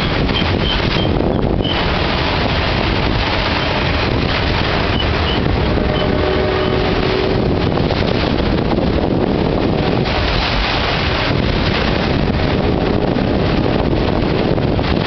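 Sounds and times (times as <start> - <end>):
freight train rolling past: 0.0 - 15.0
steel wheels rumbling on rails: 0.0 - 15.0
wind buffeting microphone: 0.0 - 15.0.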